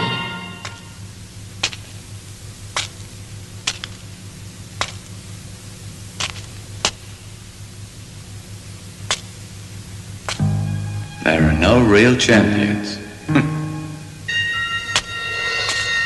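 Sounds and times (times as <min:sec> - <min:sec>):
film soundtrack hum and hiss: 0:00.0 - 0:16.0.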